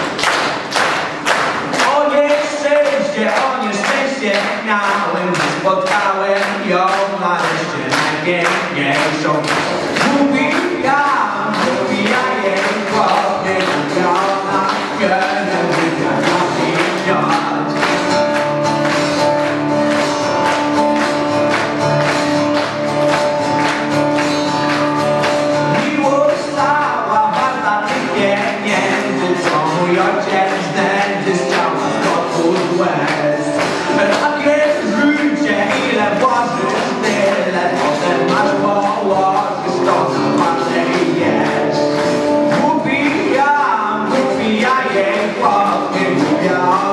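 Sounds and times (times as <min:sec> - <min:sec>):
instrumental accompaniment with beat: 0:00.0 - 0:46.9
young man singing into a microphone: 0:01.8 - 0:18.0, 0:25.6 - 0:46.9.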